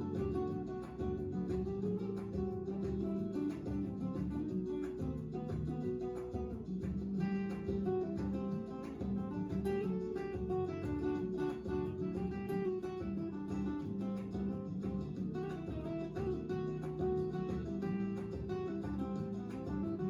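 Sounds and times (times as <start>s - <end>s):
guitar music: 0.0s - 20.0s.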